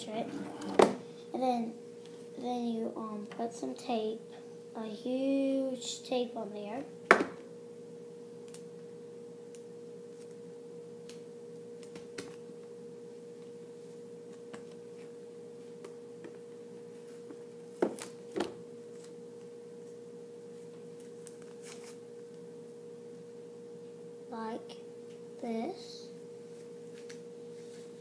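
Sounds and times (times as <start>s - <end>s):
steady electrical hum: 0.0s - 28.0s.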